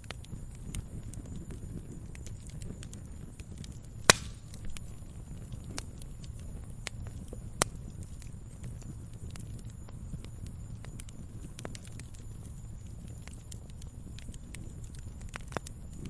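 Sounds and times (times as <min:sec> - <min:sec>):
burning wood rumble: 0:00.0 - 0:16.0
campfire crackling: 0:00.0 - 0:16.0
fire popping: 0:00.0 - 0:16.0.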